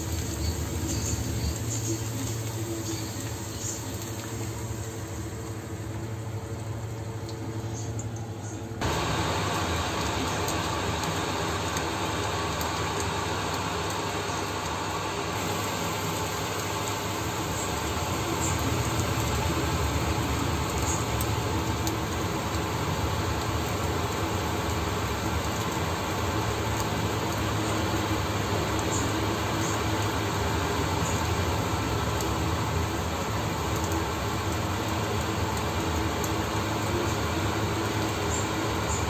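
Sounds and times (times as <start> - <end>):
low steady hum: 0.0 - 39.0
omelette sizzling in a pan: 0.0 - 39.0.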